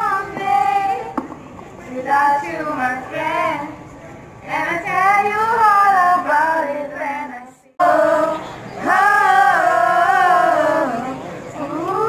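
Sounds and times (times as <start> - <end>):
girls singing together: 0.0 - 1.2, 1.9 - 12.0.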